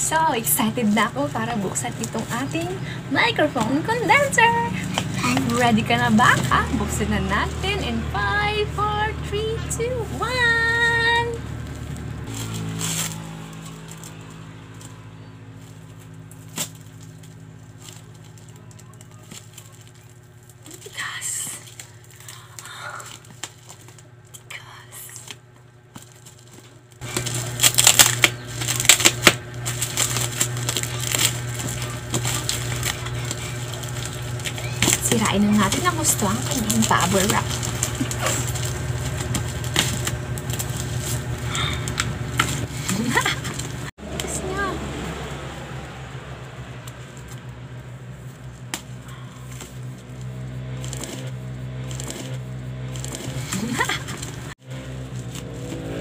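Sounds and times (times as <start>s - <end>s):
bubble wrap crackling bursts: 0.0s - 8.0s, 10.3s - 43.9s, 46.8s - 56.0s
plastic packaging crinkling: 0.0s - 8.0s, 11.5s - 43.9s, 46.8s - 56.0s
low steady hum: 0.0s - 56.0s.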